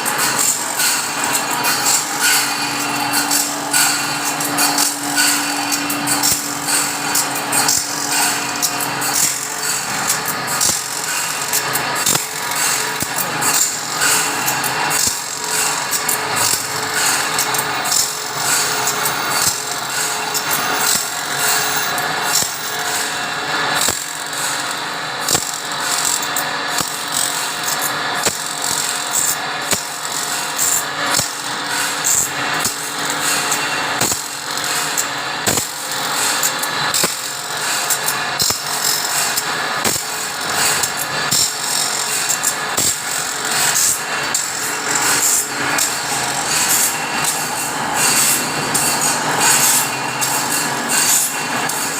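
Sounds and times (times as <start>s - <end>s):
power tool running: 0.0s - 51.9s
sharp metallic clicks and knocks: 0.0s - 51.9s.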